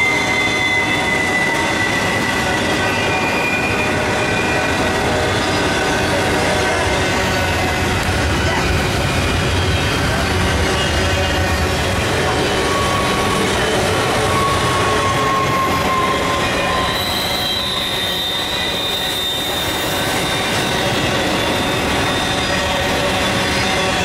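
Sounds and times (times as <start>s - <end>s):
high wheel squeals: 0.0s - 24.0s
train wheels rushing on rail: 0.0s - 24.0s.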